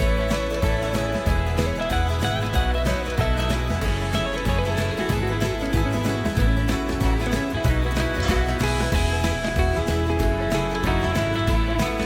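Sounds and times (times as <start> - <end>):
upbeat country music with guitar: 0.0 - 12.0.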